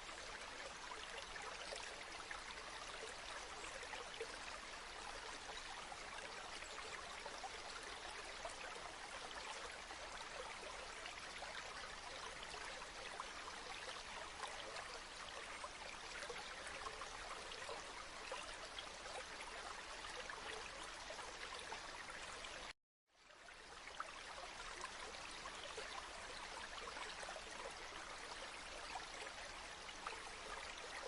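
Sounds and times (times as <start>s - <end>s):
river water babbling: 0.0s - 31.0s.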